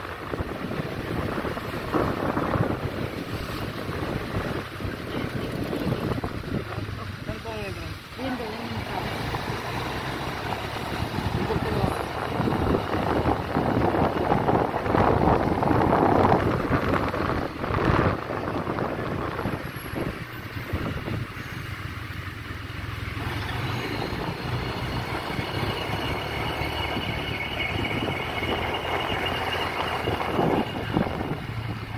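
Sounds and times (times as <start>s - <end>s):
wind buffeting microphone: 0.0s - 7.7s, 8.9s - 21.8s, 23.3s - 31.9s
city street traffic: 0.0s - 31.9s.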